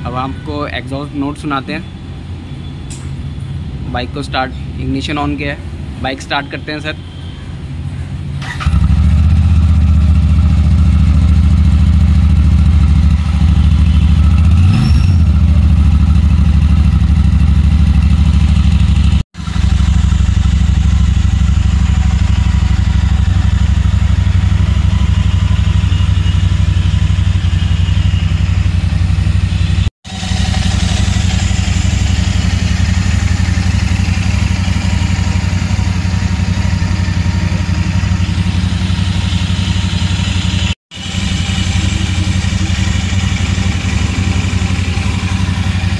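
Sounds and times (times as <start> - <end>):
motorcycle engine idling: 8.6 - 45.9.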